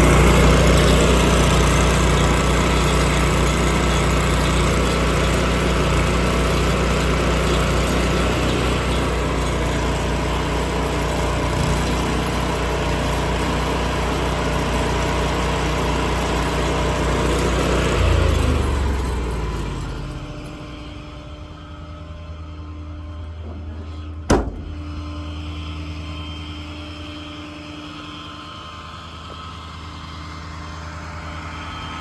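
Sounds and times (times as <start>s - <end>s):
engine running and shutting off: 0.0s - 32.0s.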